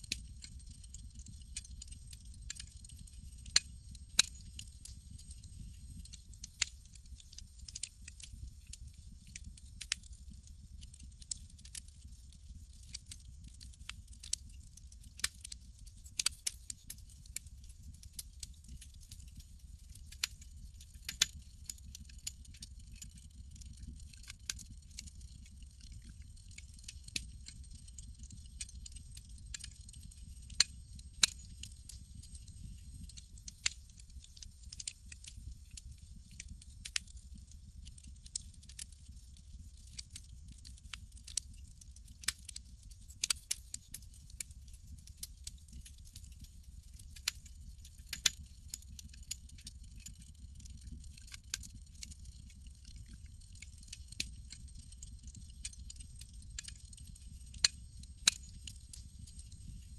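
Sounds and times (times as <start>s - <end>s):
campfire crackling and popping: 0.0s - 59.8s
low rumble of fire: 0.0s - 59.9s.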